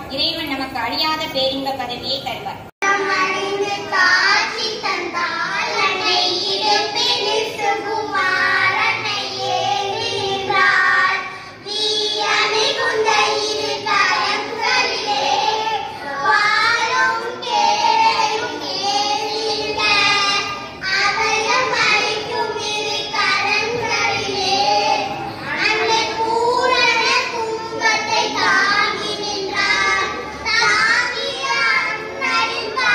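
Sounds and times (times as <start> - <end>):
girls singing together: 2.8 - 32.9.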